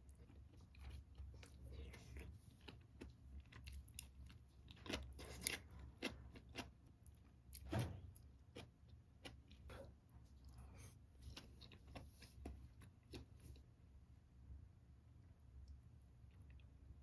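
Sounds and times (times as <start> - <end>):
person chewing food: 0.0 - 13.8, 15.6 - 17.0.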